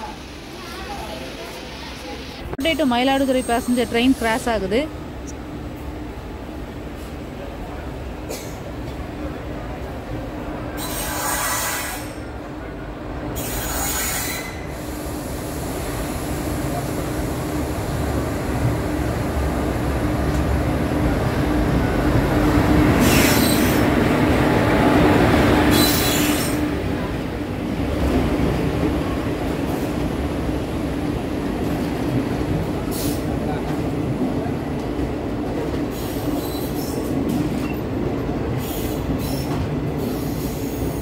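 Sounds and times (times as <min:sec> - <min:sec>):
passenger train rumbling past: 0:00.0 - 0:41.0.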